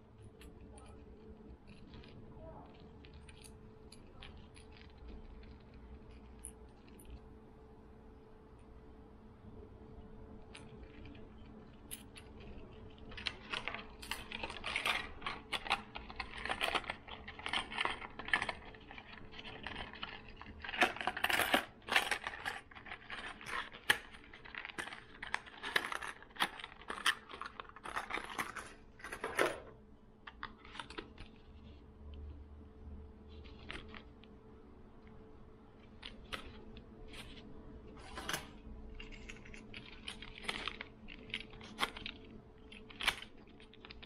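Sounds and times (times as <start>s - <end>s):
plastic packaging clicks and crinkles: 0.0s - 7.3s, 10.4s - 32.4s, 33.3s - 34.4s, 35.0s - 44.0s.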